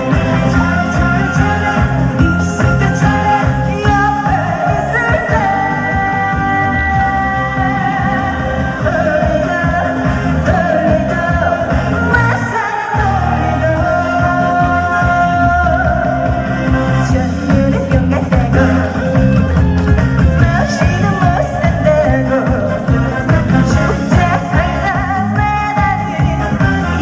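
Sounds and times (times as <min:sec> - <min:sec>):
amplified backing music: 0:00.0 - 0:27.0
woman singing pop song: 0:00.0 - 0:27.0.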